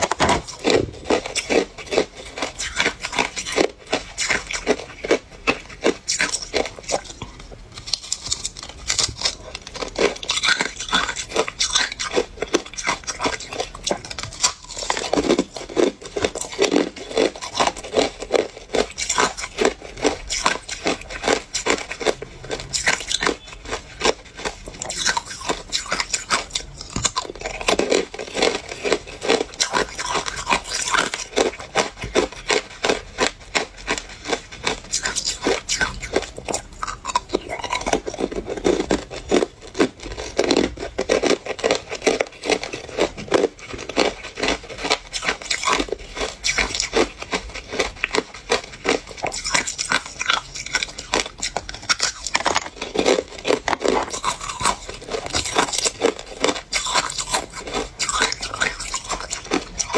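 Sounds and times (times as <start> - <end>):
ice cubes crunching: 0.0 - 59.9.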